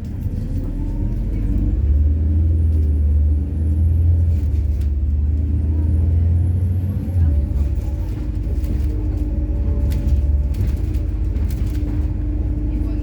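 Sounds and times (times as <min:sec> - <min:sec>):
bus engine and road drone: 0:00.0 - 0:13.0.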